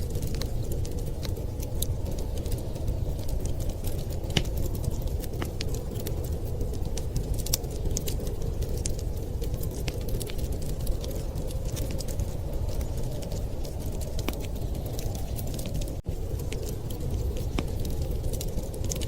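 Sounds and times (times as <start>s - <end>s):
low rumble of storm wind: 0.0s - 19.0s
wood fire crackling and popping: 0.0s - 19.0s.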